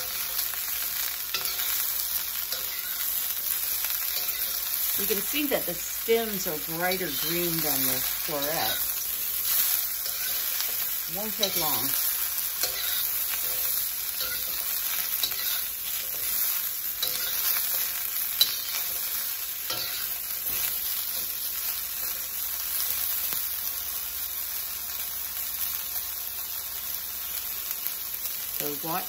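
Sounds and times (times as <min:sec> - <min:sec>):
spatula scraping and clacking wok: 0:00.0 - 0:23.4
broccoli sizzling in oil: 0:00.0 - 0:29.0.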